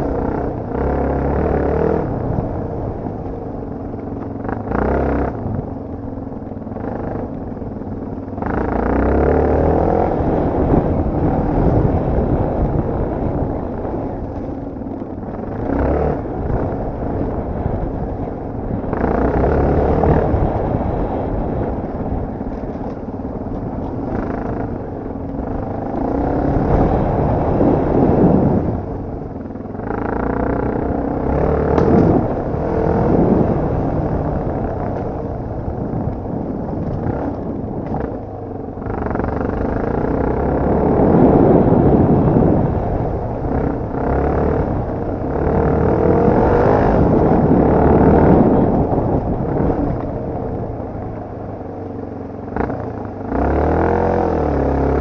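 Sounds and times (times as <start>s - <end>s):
dirt bike engine revving: 0.0s - 5.7s, 6.6s - 14.6s, 15.2s - 38.2s, 38.8s - 50.7s, 52.4s - 55.0s.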